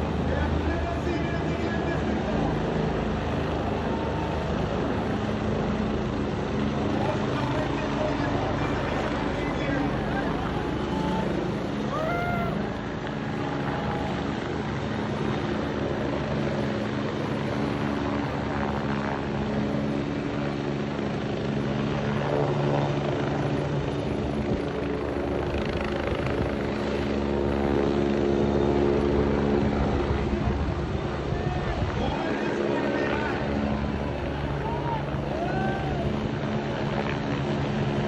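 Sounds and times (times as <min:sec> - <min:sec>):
helicopter rotor and engine drone: 0:00.0 - 0:38.0.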